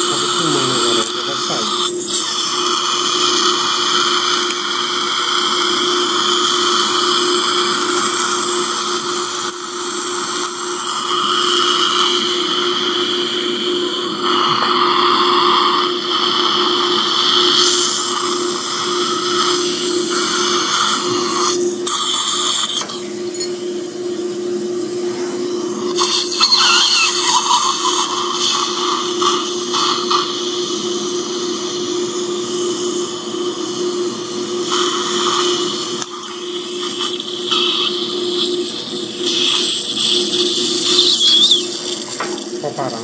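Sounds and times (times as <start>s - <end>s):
suction aspirator hum and hiss: 0.0s - 43.0s.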